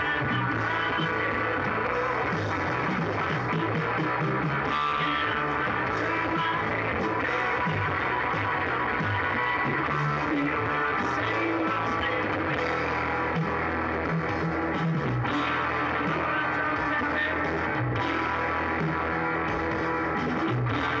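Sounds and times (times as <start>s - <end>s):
guitar rock music: 0.0s - 21.0s.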